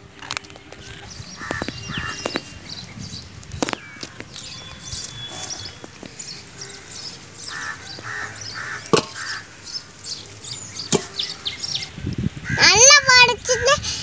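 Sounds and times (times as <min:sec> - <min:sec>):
small birds chirping: 0:00.0 - 0:14.0
loud bird call: 0:00.9 - 0:03.0, 0:03.6 - 0:12.9.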